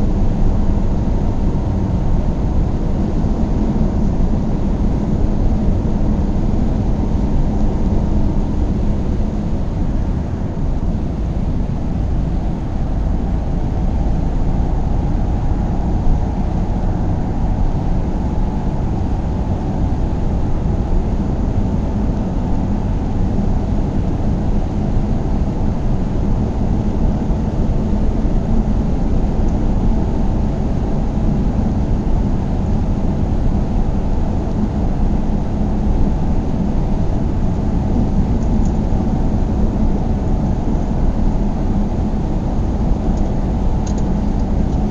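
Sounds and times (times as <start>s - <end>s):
car road and engine noise: 0.0s - 44.9s
faint steady hum: 0.0s - 44.9s.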